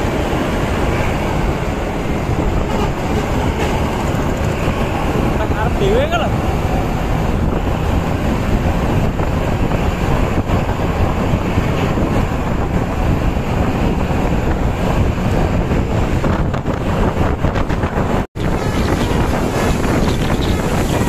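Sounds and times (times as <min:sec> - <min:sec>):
vehicle noise: 0:00.0 - 0:21.0
wind buffeting microphone: 0:00.0 - 0:21.0.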